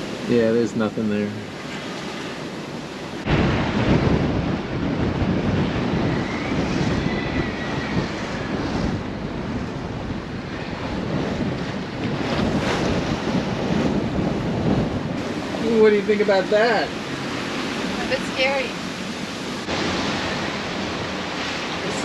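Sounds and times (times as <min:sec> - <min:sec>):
water rushing past boat hull: 0:00.0 - 0:22.0
wind buffeting microphone: 0:00.0 - 0:22.0.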